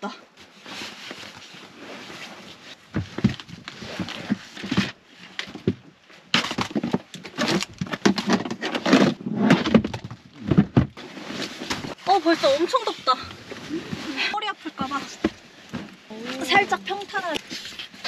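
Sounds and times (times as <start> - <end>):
camping gear rustling and knocking: 0.3 - 18.0.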